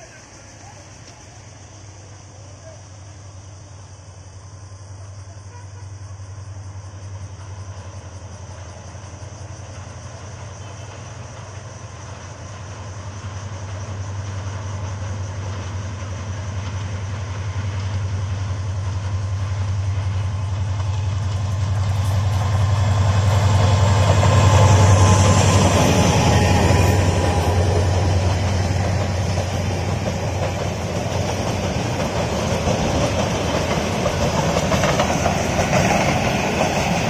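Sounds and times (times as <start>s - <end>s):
diesel locomotive drone: 0.0s - 37.0s
train coaches rumbling past: 0.0s - 37.0s.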